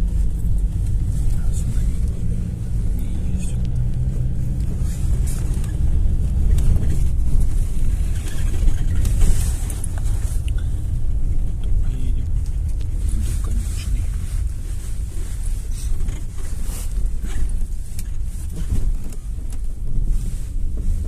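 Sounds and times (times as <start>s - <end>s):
engine and road rumble: 0.0s - 21.0s.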